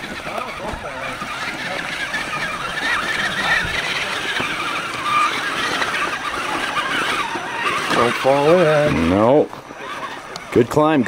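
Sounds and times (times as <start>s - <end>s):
toy truck motor whining: 0.0s - 11.0s.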